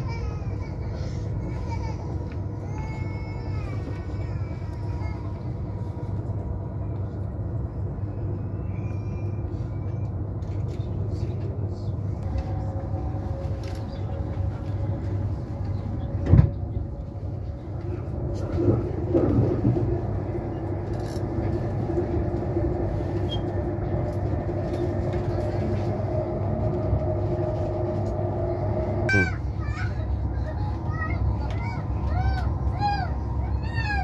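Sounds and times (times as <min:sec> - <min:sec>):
train cabin rumble: 0:00.0 - 0:34.0.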